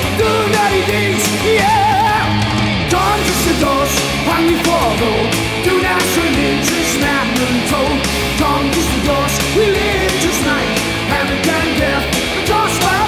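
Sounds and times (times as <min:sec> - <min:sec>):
bending lead guitar melody: 0:00.0 - 0:13.0
heavy metal band playing live: 0:00.0 - 0:13.0.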